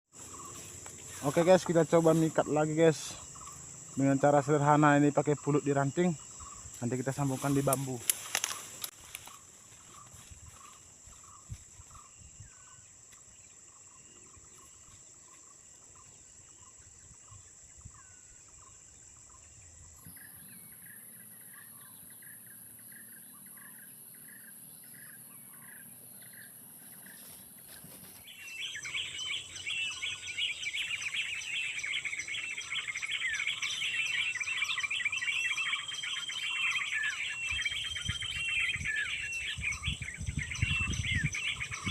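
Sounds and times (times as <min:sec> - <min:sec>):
birds twittering: 0:00.1 - 0:41.9
songbirds chirping: 0:00.1 - 0:41.9.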